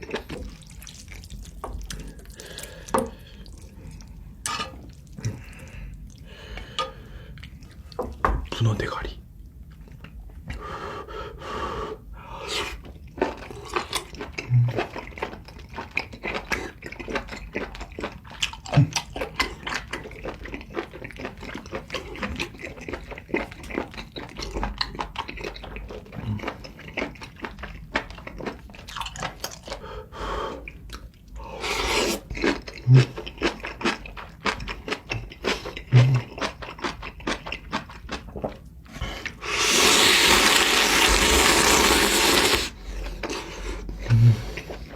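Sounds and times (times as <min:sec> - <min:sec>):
wet chewing with crunches: 0:00.0 - 0:06.3, 0:12.6 - 0:29.8, 0:30.6 - 0:44.9.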